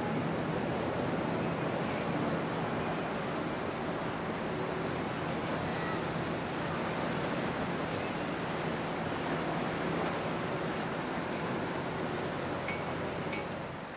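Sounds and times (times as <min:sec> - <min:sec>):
wind: 0:00.0 - 0:13.9.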